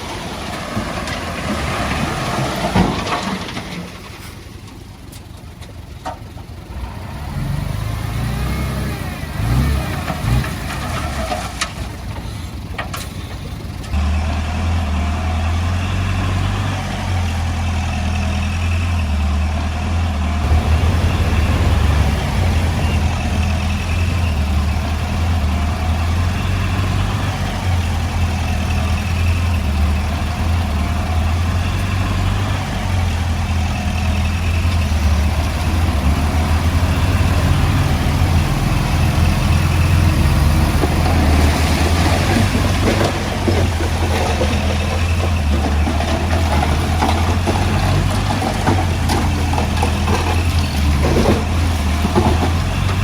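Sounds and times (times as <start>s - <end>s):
engine knocks: 0.0s - 14.3s, 20.3s - 53.0s
earthmoving machine diesel engine: 0.0s - 53.0s.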